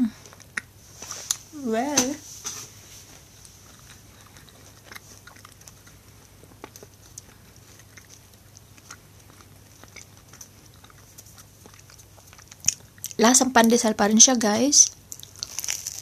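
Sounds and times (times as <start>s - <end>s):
low steady hum: 0.0s - 16.0s
person chewing bread: 0.1s - 1.5s, 2.3s - 13.7s, 14.9s - 16.0s.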